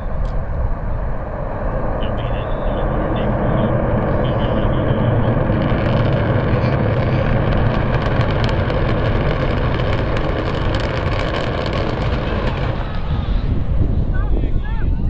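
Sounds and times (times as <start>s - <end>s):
deep rocket rumble: 0.0s - 15.0s
crackling: 0.2s - 14.3s.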